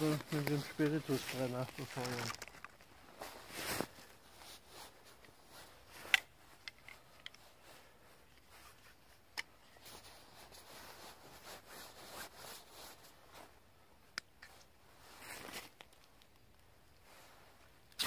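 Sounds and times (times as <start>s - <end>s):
rustling of clothing and leaves: 0.0s - 18.0s.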